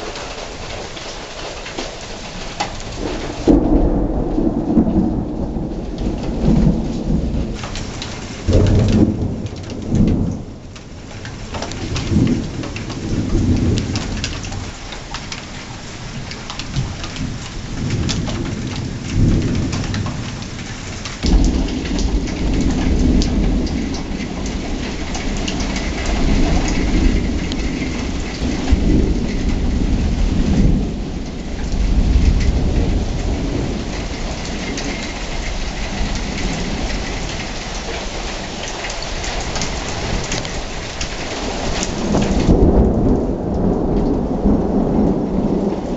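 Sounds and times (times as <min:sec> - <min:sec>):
heavy rain: 0:00.0 - 0:45.9
sharp crack of close thunder: 0:01.6 - 0:14.8, 0:16.0 - 0:45.9
rolling thunder: 0:02.1 - 0:14.8, 0:15.9 - 0:45.9.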